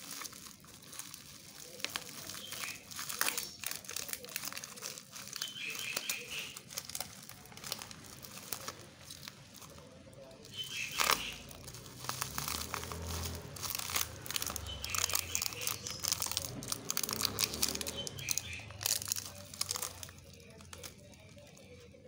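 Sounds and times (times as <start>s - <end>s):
bubble wrap crinkling and crackling: 0.0s - 22.0s.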